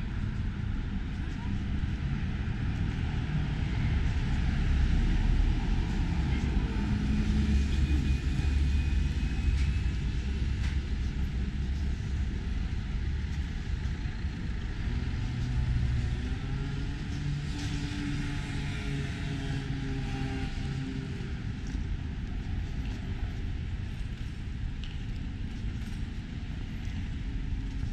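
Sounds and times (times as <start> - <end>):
low rumble of cars: 0.0 - 27.9.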